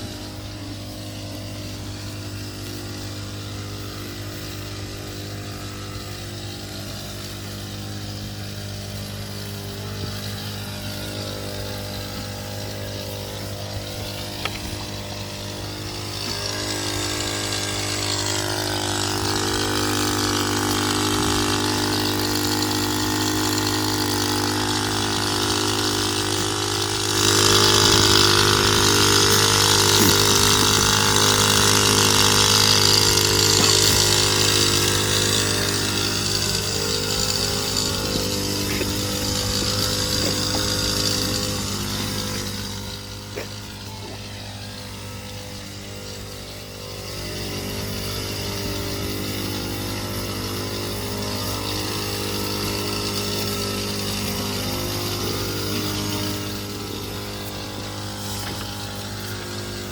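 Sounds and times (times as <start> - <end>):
motor humming: 0.0 - 59.9.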